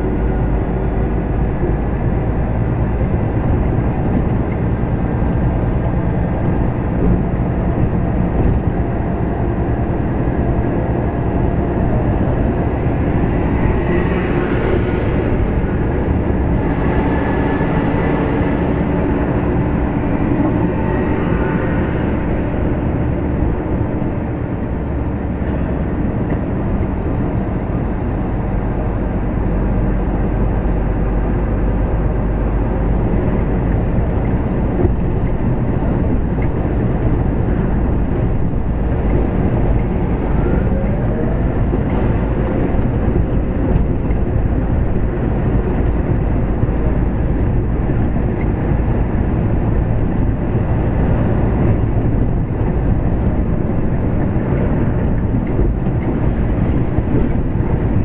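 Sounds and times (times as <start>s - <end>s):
lorry diesel engine rumbling: 0.0s - 58.0s.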